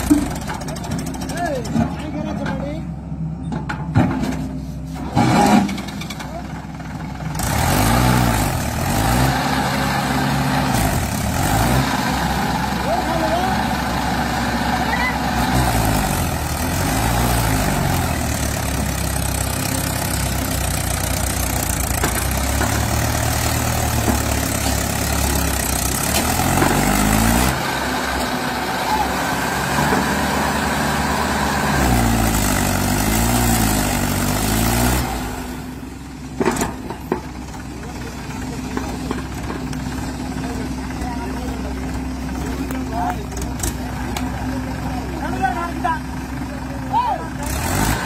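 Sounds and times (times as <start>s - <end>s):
tractor diesel engine under load: 0.0s - 48.0s.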